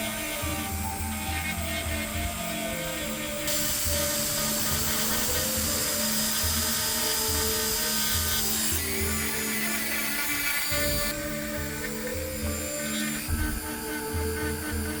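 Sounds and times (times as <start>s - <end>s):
music with pulsing beat: 0.0s - 15.0s
power carving tool cutting wood: 0.0s - 15.0s.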